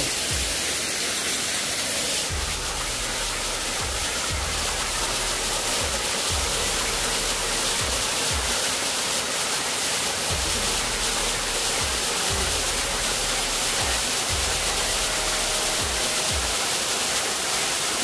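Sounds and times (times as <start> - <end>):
background music with low beat: 0.0 - 1.0, 2.2 - 17.8
waterfall rushing: 0.0 - 18.0.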